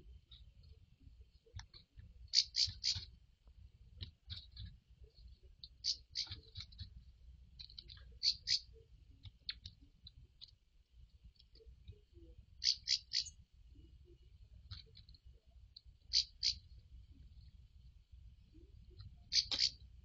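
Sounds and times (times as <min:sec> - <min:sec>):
faint steady high hum: 0:00.0 - 0:20.0.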